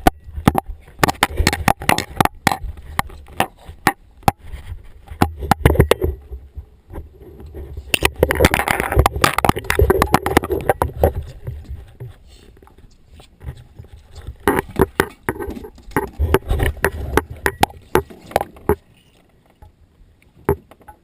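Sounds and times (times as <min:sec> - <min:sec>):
underwater clicks and crackles: 0:00.0 - 0:21.0.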